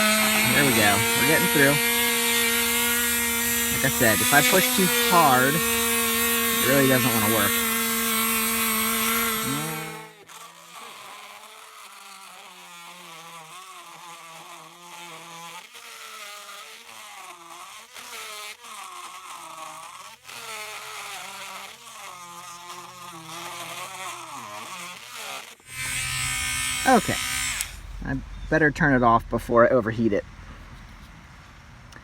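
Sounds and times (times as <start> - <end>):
rotary tool motor whine: 0.0 - 28.6.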